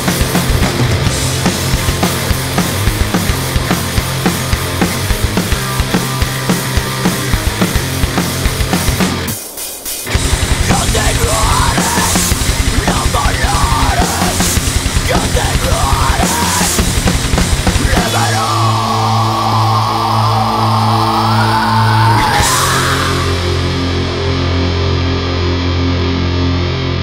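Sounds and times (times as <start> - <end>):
loud rock music with drums: 0.0 - 27.0.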